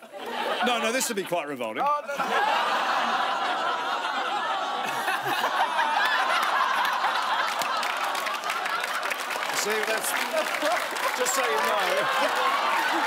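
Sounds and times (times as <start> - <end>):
audience laughing: 0.0 - 13.0.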